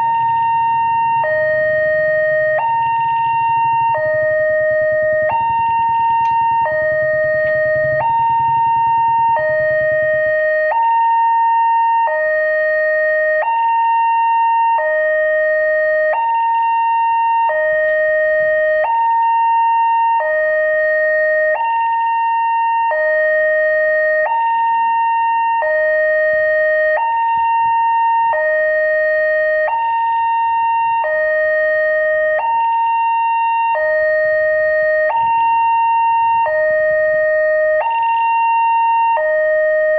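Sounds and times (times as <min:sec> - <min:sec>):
two-tone level crossing siren: 0:00.0 - 0:39.9.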